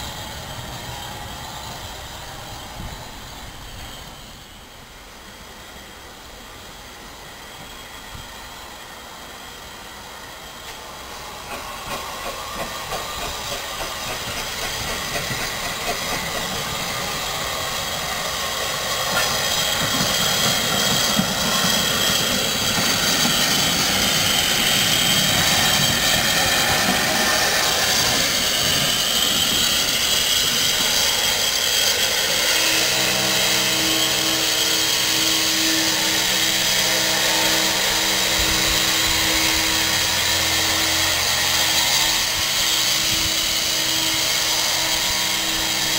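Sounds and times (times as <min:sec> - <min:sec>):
steam hissing: 0:00.0 - 0:45.9
steam locomotive beats: 0:00.0 - 0:45.9.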